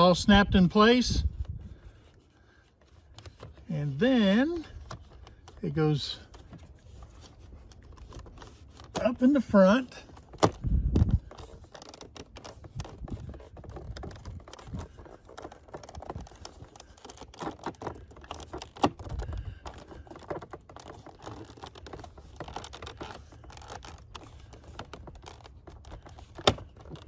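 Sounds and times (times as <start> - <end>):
plastic parts clicking and rattling: 1.2 - 27.0.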